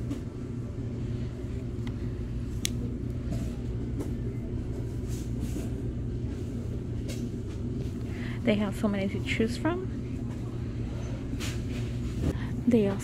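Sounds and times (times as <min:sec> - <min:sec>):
low rumble and hum: 0:00.0 - 0:13.0.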